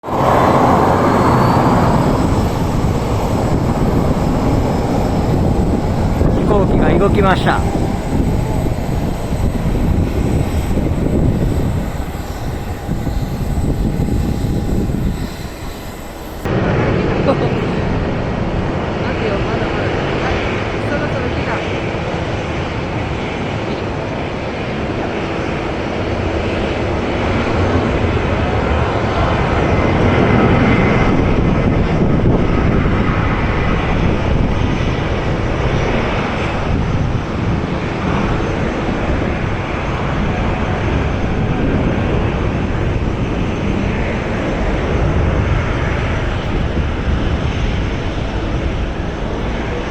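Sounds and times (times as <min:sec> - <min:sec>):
airplane engine rumble: 0:00.0 - 0:49.9.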